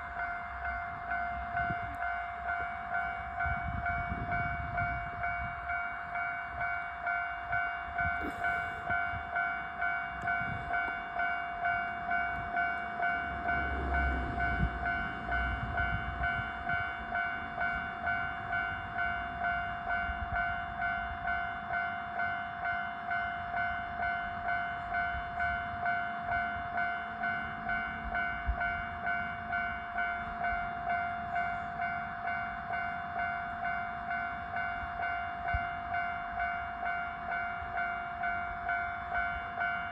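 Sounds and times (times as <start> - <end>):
level-crossing alarm bell ringing: 0.0 - 39.9.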